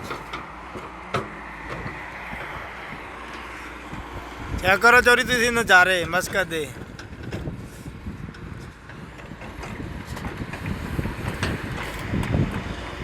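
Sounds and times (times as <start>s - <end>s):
low vehicle rumble: 0.0s - 13.0s
wind buffeting microphone: 1.6s - 13.0s.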